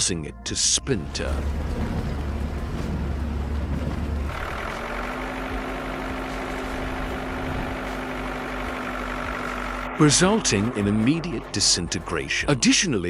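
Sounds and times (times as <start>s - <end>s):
diesel engine running: 0.9s - 13.0s.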